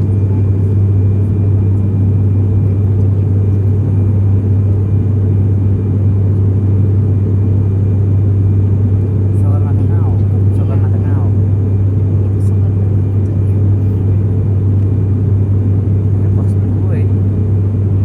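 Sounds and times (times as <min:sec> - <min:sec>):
aeroplane cabin drone: 0:00.0 - 0:18.0.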